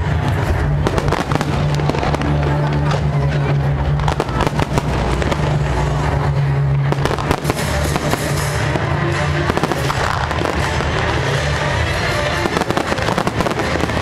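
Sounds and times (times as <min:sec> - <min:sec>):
fireworks bangs and crackles: 0:00.0 - 0:14.0
music with low bass notes: 0:00.0 - 0:14.0.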